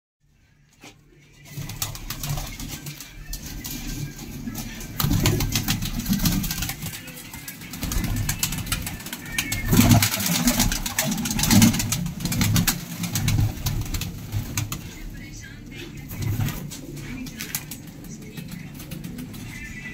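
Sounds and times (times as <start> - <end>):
pigeons cooing: 1.4 - 19.9
wings flapping: 1.4 - 19.9.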